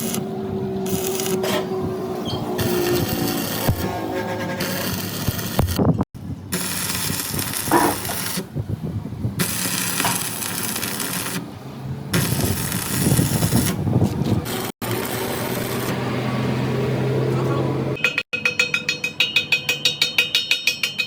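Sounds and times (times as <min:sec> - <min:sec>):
metalworking noise: 0:00.0 - 0:08.6, 0:09.4 - 0:21.0.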